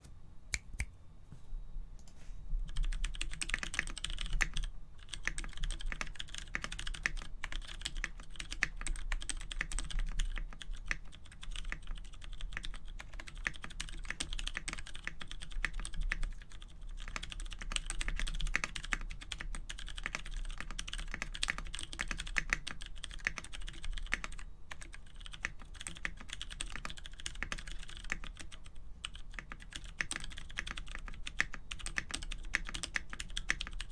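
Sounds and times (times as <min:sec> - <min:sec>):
typing on mechanical keyboard: 0:02.7 - 0:33.9.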